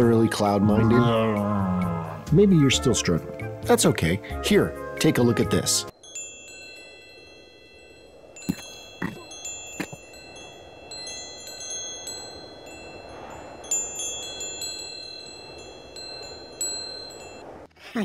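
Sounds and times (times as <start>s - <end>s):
wind chimes ringing: 0.0s - 17.7s.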